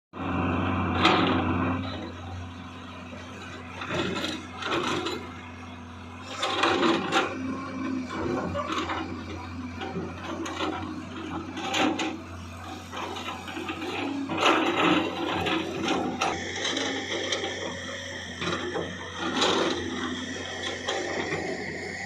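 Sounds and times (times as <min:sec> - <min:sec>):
excavator diesel engine humming: 0:00.2 - 0:22.0
rattling scraping clatter: 0:03.4 - 0:05.4, 0:06.2 - 0:22.0.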